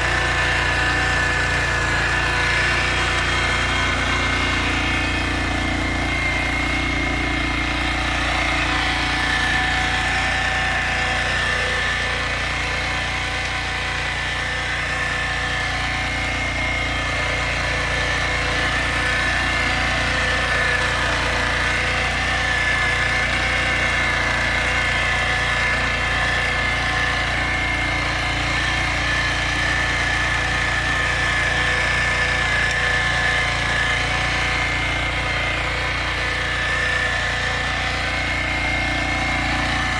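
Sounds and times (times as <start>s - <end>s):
digging machine engine running: 0.0s - 39.9s.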